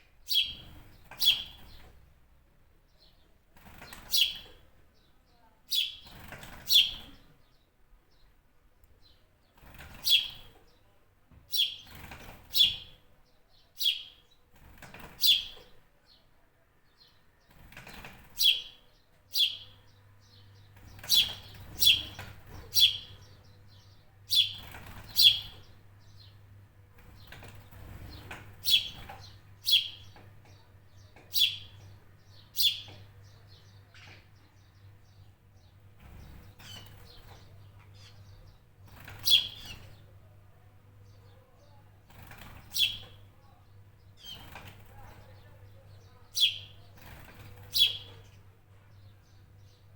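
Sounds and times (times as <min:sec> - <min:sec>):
bird chirping: 0:00.1 - 0:02.0, 0:02.9 - 0:08.3, 0:09.0 - 0:10.9, 0:11.5 - 0:40.3, 0:41.0 - 0:49.9.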